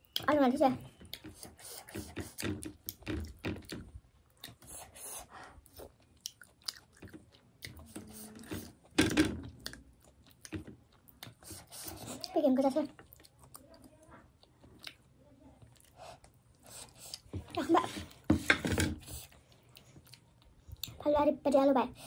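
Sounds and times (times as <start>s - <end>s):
person chewing food: 0.9s - 18.3s, 19.0s - 21.0s.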